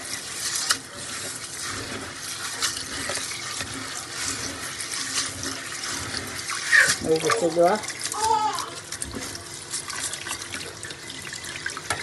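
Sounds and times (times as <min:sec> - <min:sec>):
water running from tap into sink: 0:00.0 - 0:12.0.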